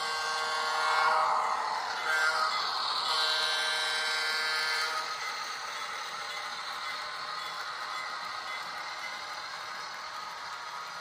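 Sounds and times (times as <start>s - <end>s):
model diesel engine sound: 0.0s - 11.0s
model train cars rolling: 0.0s - 11.0s.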